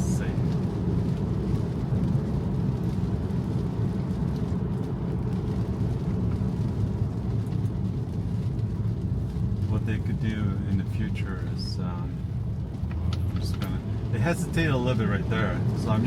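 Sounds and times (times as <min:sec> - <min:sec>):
tyre noise on wet road: 0:00.0 - 0:16.0.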